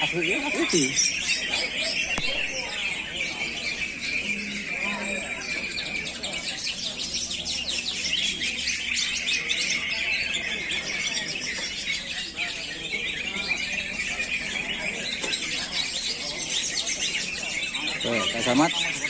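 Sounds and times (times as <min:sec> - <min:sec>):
leafbird singing: 0:00.0 - 0:19.0
songbirds chirping and trilling: 0:00.0 - 0:19.0.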